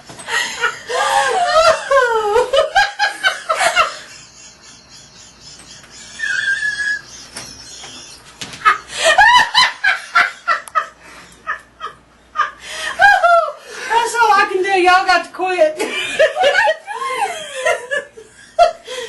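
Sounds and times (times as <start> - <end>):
woman laughing: 0.3 - 13.6, 15.8 - 19.0.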